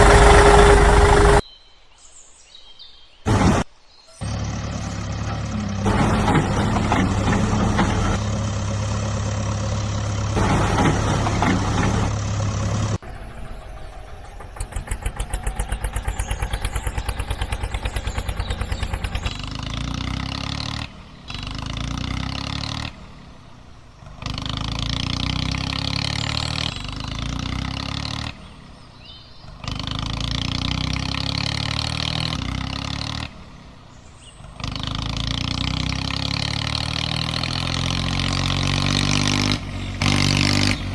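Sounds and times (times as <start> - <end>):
engine chugging: 0.0 - 1.4, 4.2 - 40.9
engine running: 0.0 - 1.4, 3.3 - 40.9.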